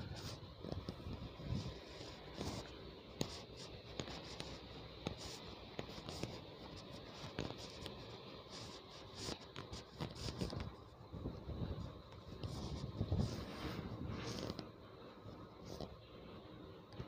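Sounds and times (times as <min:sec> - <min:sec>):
rubbing and scratching: 0:00.0 - 0:16.0.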